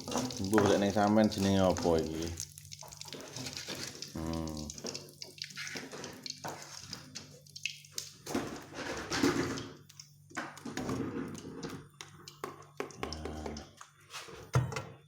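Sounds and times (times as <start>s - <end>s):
soup bubbling and splashing: 0.0s - 13.8s.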